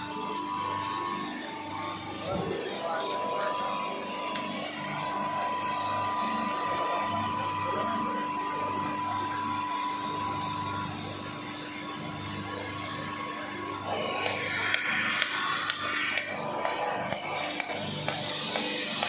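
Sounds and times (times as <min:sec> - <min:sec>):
machine whirring with high hum: 0:00.0 - 0:19.0.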